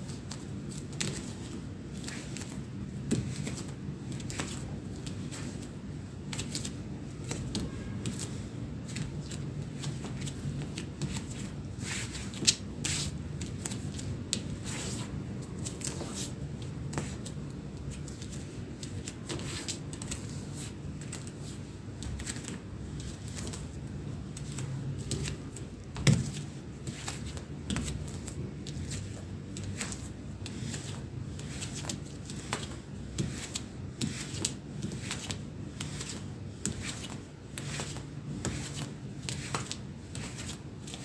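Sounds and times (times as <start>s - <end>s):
bare feet on parquet floor: 0.0s - 41.0s.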